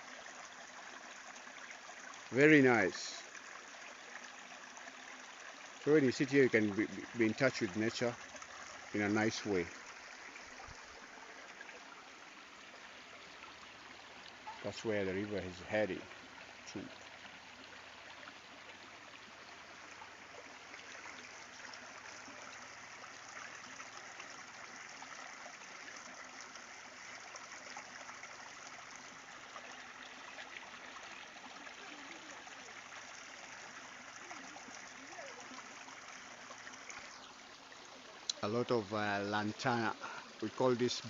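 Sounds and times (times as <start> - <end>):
river water trickling: 0.0 - 41.0.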